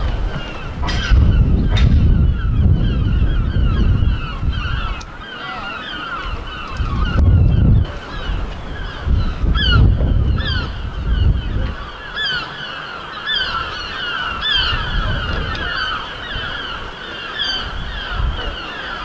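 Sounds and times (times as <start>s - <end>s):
flock of birds honking: 0.0s - 19.0s.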